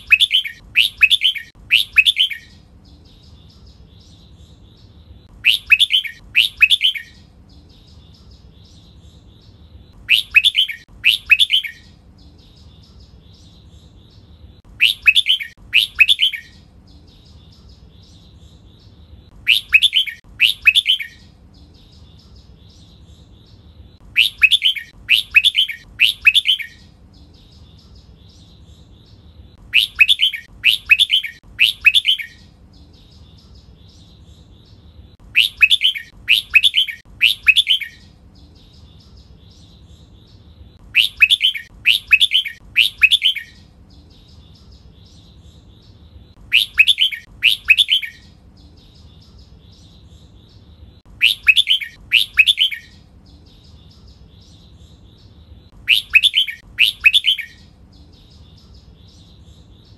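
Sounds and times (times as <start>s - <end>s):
soft bird chattering: 0.0s - 59.9s.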